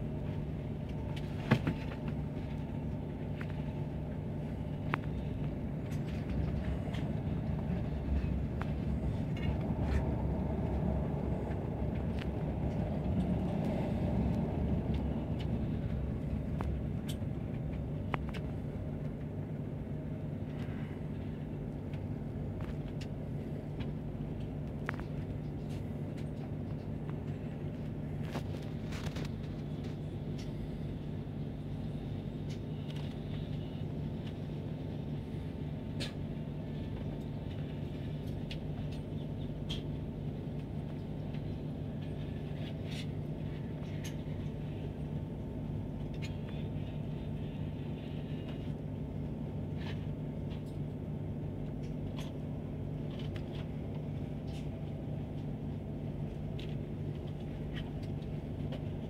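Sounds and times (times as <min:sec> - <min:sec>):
train cabin rumble and hum: 0:00.0 - 0:59.0.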